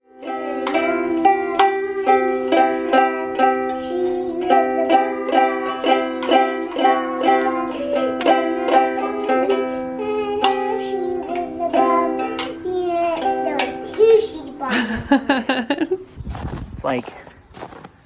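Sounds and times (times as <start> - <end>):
plucked string tune: 0.0 - 14.6.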